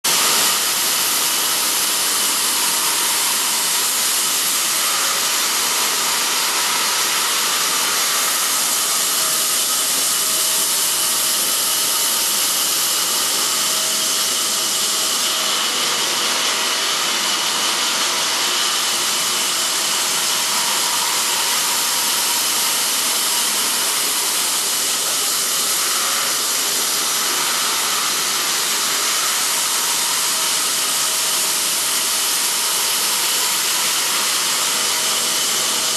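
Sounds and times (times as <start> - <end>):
stone saw grinding: 0.1 - 35.9.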